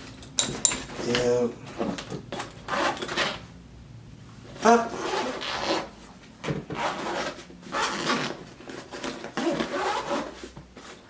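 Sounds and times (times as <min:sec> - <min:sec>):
bag rustling and scraping: 0:00.0 - 0:03.6, 0:04.2 - 0:11.0.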